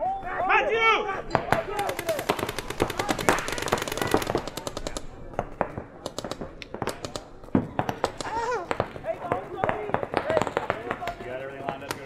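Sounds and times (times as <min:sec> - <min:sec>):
paintball markers firing: 0:01.3 - 0:12.0.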